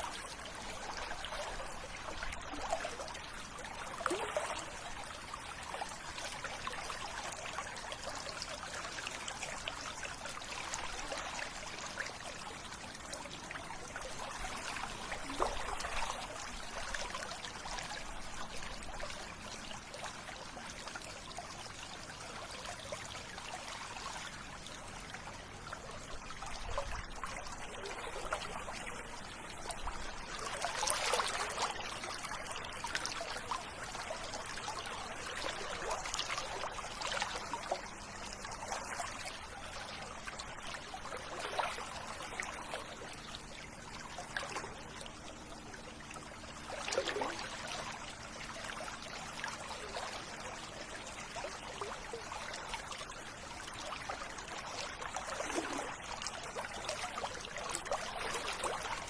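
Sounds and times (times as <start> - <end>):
river water flowing and splashing: 0.0 - 59.0.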